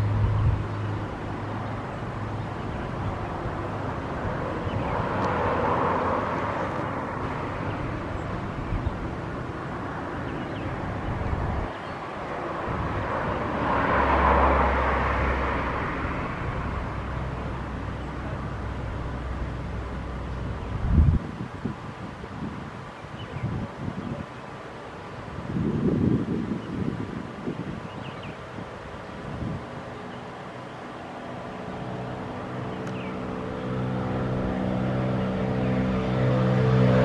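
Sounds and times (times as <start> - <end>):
outdoor engine noise: 0.0 - 37.0
wind rumble on microphone: 0.0 - 37.0.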